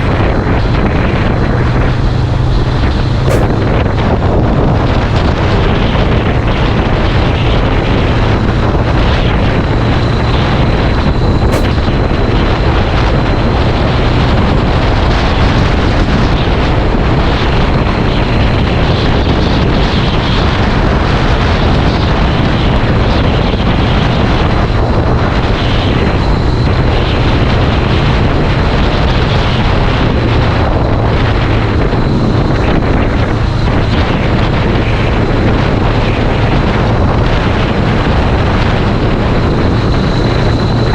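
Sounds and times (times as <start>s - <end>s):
motorcycle engine running low: 0.0s - 40.9s
wind noise on microphone: 0.0s - 40.9s.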